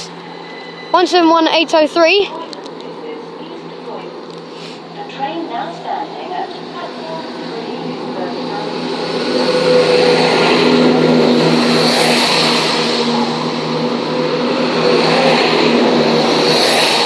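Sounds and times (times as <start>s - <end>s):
diesel train engine drone: 0.0s - 17.0s.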